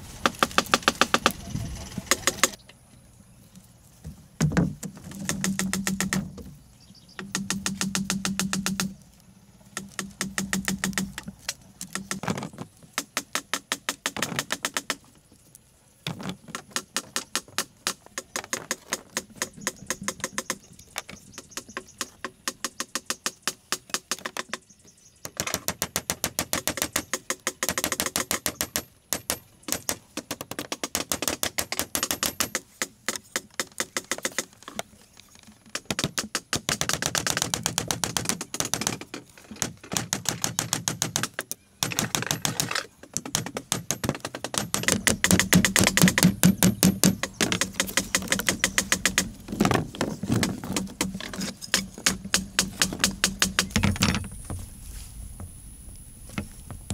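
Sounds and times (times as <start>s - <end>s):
hand tool striking bamboo: 0.2s - 1.4s, 4.4s - 6.4s, 7.2s - 9.0s, 9.7s - 15.1s, 16.2s - 24.6s, 25.3s - 34.9s, 35.6s - 54.6s.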